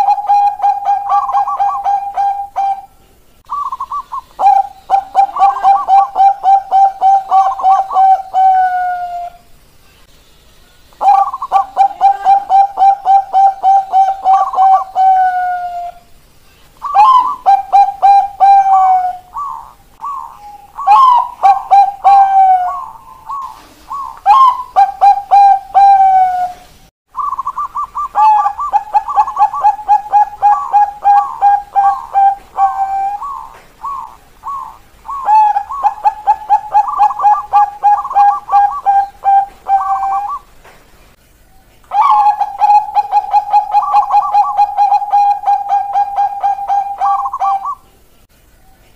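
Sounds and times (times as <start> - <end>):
doves cooing: 0.0 - 9.4, 11.0 - 16.1, 16.8 - 40.6, 41.9 - 48.1.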